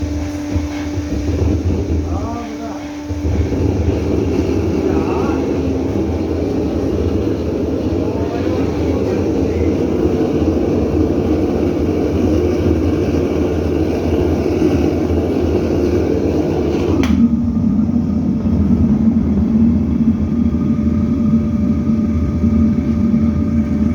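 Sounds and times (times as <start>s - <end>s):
furnace burner roaring: 0.0s - 23.9s
steady low hum: 0.0s - 23.9s.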